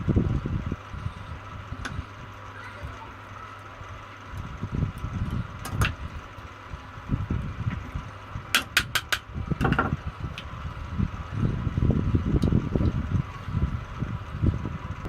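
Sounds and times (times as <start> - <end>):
faint steady hum: 0.0 - 15.0
low knocking and handling rumble: 0.0 - 15.0.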